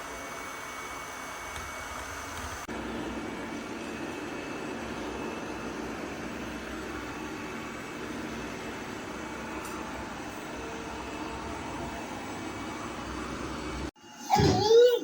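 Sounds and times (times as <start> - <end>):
robot vacuum cleaner whirring: 0.0 - 14.5.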